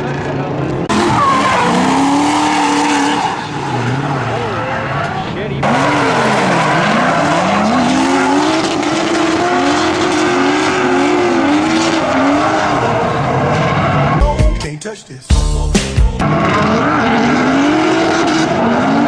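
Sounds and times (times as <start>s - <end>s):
car engines revving: 0.0s - 19.0s
tyres skidding: 0.0s - 19.0s.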